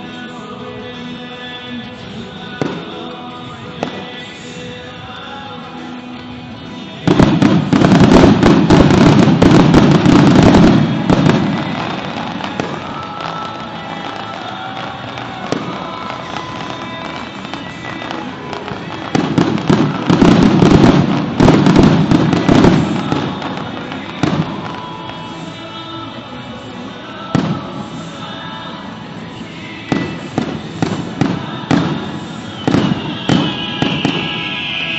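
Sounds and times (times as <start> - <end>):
music playing: 0.0 - 34.9
fireworks bangs and crackles: 0.2 - 34.9.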